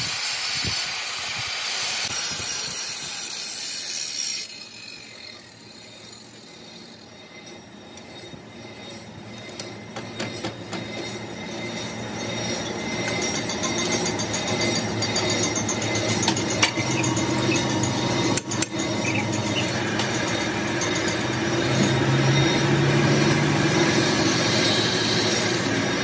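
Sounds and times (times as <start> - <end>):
angle grinder grinding steel: 0.0 - 26.0
workshop hum: 0.0 - 26.0.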